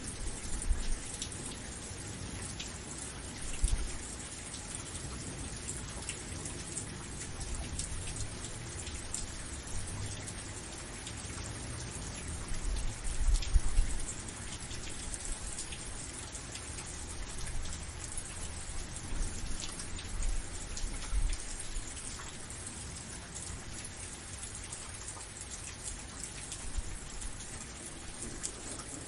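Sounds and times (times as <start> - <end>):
rain falling: 0.0 - 29.0
raindrops ticking on a surface: 0.0 - 29.0.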